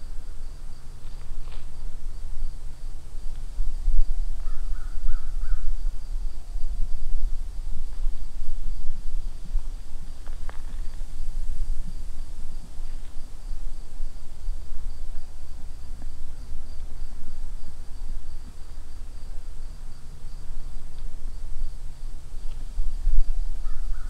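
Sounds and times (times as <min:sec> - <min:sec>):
insects trilling: 0:00.0 - 0:24.0
low steady rumble: 0:00.0 - 0:24.0.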